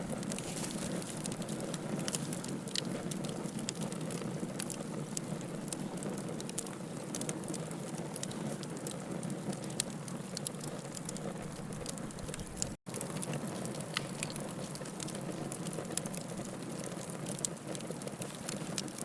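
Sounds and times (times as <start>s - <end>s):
fire hissing and rumbling: 0.0s - 19.0s
logs crackling and popping: 0.0s - 19.0s.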